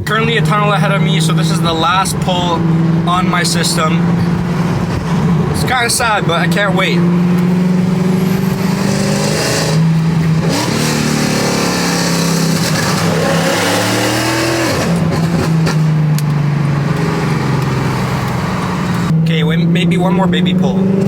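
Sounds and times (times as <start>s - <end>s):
car engine under hard throttle: 0.0s - 21.0s.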